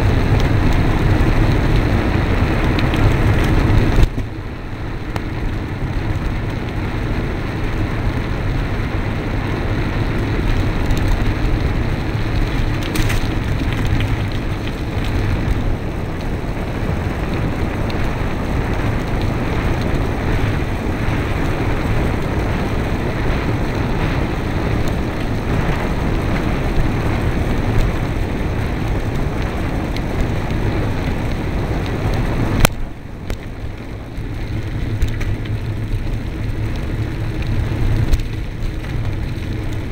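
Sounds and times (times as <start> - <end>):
wind and road vibration rattling: 0.0 - 39.9.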